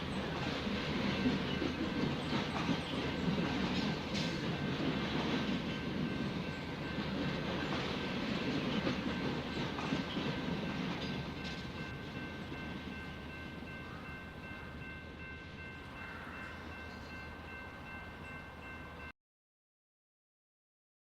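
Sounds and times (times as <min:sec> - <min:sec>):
freight train rumbling past: 0:00.0 - 0:19.1.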